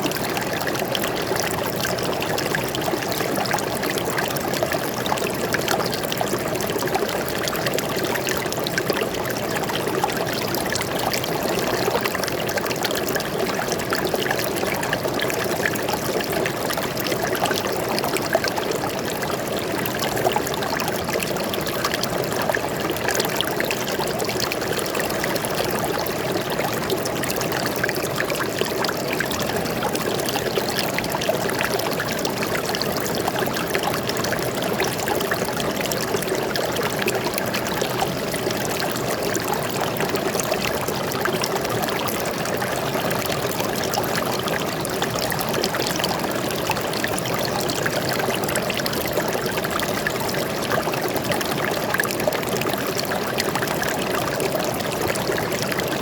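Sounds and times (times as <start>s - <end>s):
stream water flowing over rocks: 0.0s - 56.0s.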